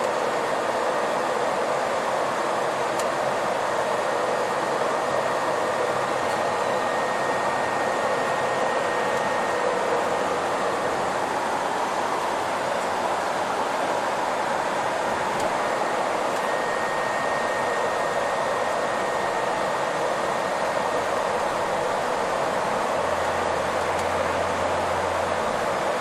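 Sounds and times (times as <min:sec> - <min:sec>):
faint high whine: 0:00.0 - 0:26.0
bus cabin road noise: 0:01.6 - 0:16.7, 0:19.8 - 0:26.0.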